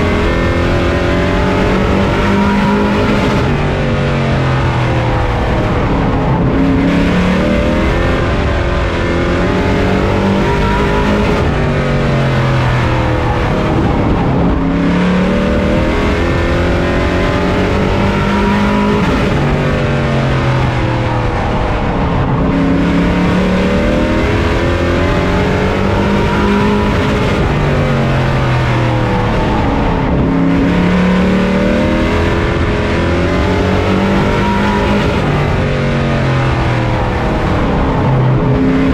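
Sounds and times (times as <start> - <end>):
race truck engine revving: 0.0 - 38.9.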